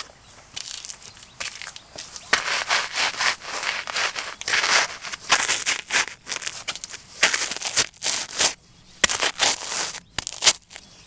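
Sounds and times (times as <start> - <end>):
boots crunching pretzels: 0.0 - 11.0.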